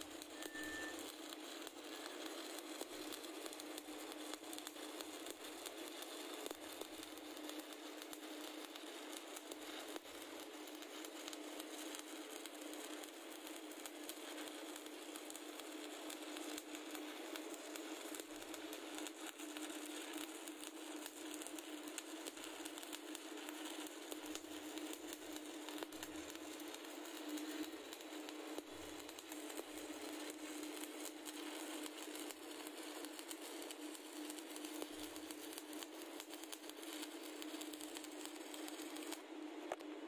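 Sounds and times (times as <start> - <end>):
welding arc crackling: 0.0 - 40.0.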